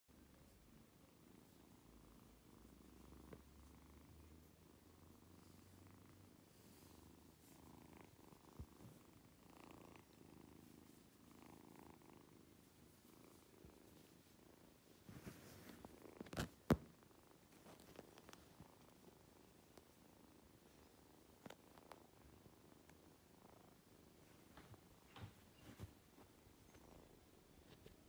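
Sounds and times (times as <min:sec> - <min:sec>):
kitten purring: 0:00.1 - 0:28.0.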